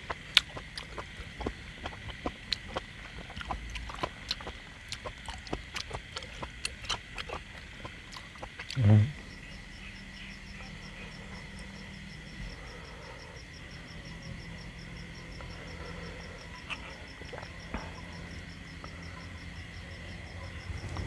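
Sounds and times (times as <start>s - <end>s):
insect chirping: 0.0s - 21.0s
low hum: 0.0s - 21.0s.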